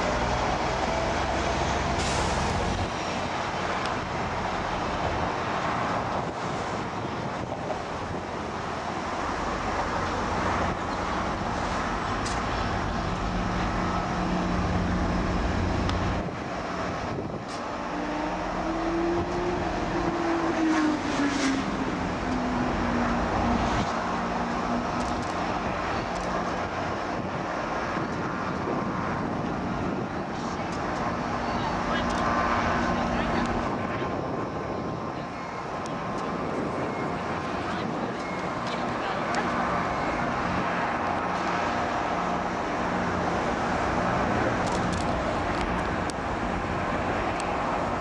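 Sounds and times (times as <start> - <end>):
traffic rumble: 0.0 - 48.0.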